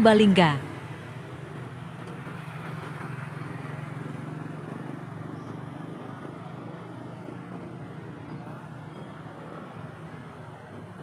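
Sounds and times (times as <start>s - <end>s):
motorbike engines rumbling: 0.0s - 11.0s.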